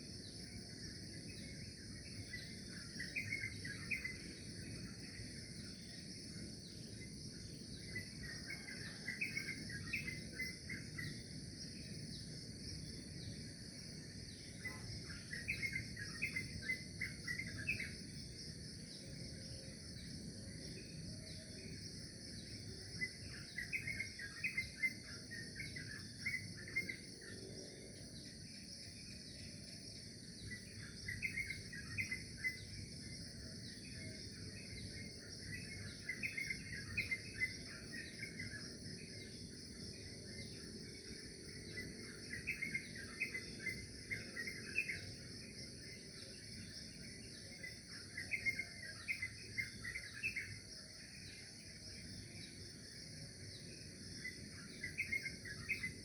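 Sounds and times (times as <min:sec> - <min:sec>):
insects trilling: 0:00.0 - 0:56.0
bird chirping: 0:00.2 - 0:56.0.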